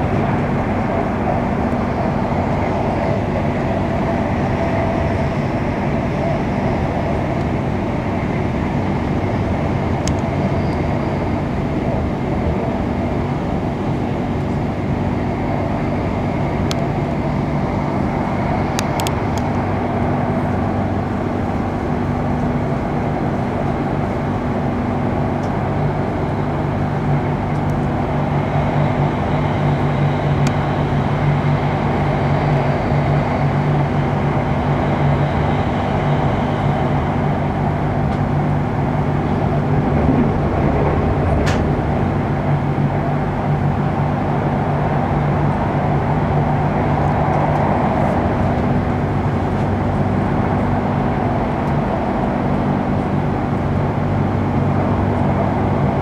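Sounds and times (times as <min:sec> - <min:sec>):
low train hum: 0:00.0 - 0:56.0
train wheels rumbling on rail: 0:00.0 - 0:56.0.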